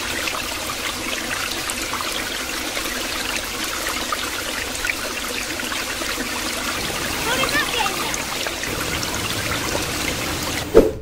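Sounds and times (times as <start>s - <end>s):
waterfall splashing over rocks: 0.0s - 10.7s.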